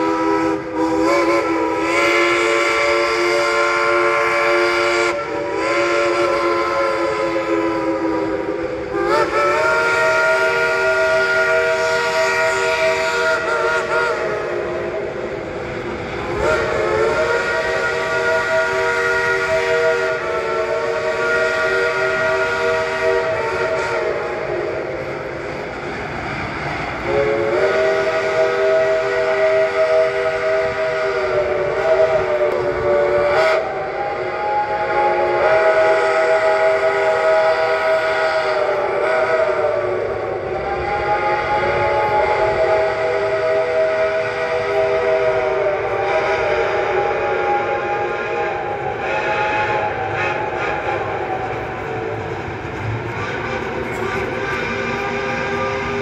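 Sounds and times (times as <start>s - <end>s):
steam locomotive chime whistle: 0.0s - 25.4s, 27.0s - 56.0s
steam hiss: 0.0s - 56.0s.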